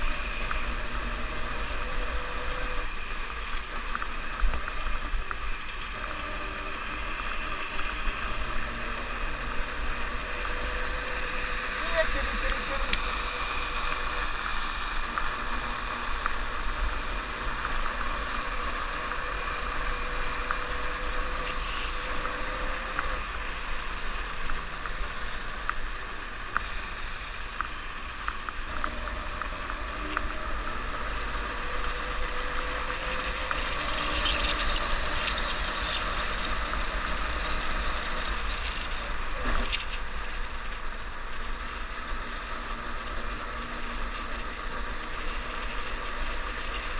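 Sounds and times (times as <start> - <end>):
small ticks: 0.0 - 46.9
snowmobile engine and track noise: 0.0 - 46.9.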